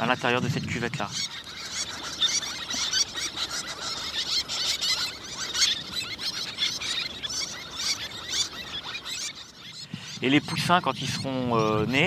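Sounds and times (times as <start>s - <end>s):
terns calling: 0.0s - 12.0s.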